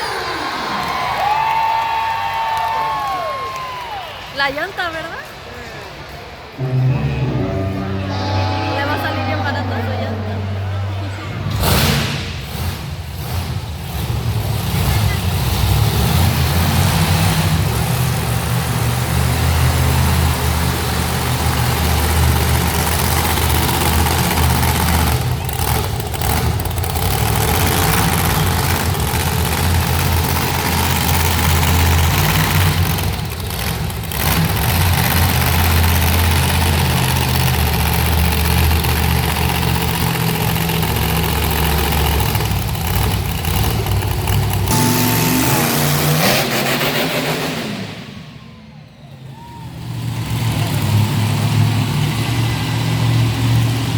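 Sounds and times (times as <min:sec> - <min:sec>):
monster truck engine running: 0:03.8 - 0:53.9.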